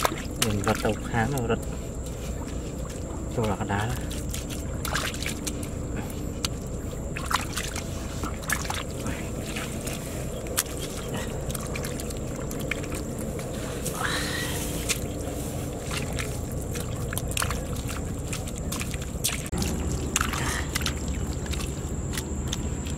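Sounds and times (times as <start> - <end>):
hands squelching wet mud: 0.0 - 22.9
small splashes: 0.0 - 22.9.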